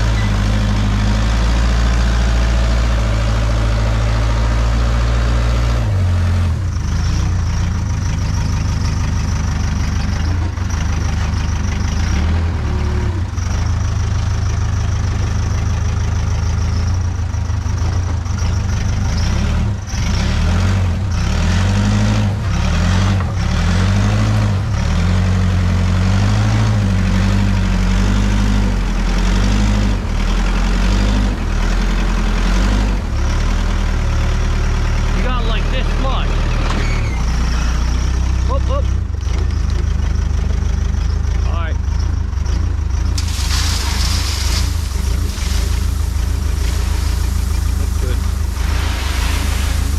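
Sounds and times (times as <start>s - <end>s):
diesel engine running hard: 0.0s - 49.9s.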